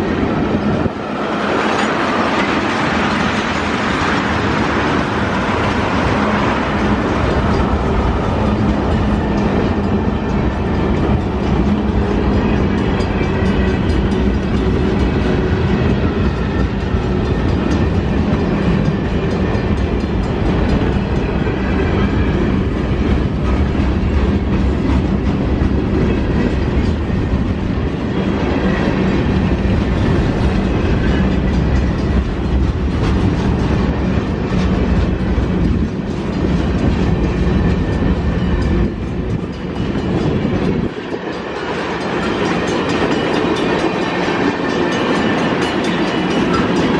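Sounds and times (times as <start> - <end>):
steady low train hum: 0.0 - 46.9
train wheels clicking over rail joints: 0.2 - 46.9.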